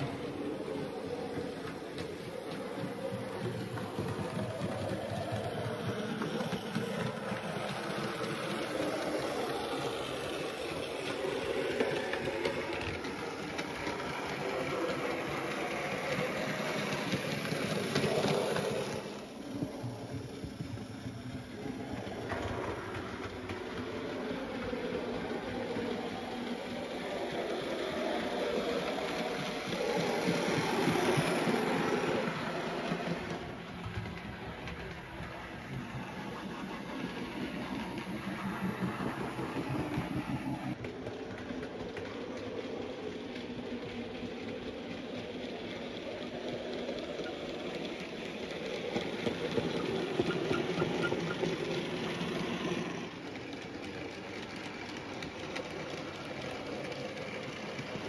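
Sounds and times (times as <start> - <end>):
model trains whirring on track: 0.0 - 58.0.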